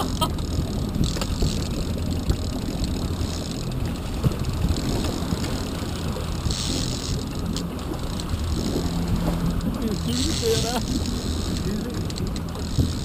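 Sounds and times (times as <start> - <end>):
boat engine running: 0.0 - 13.0
water churning: 0.0 - 13.0.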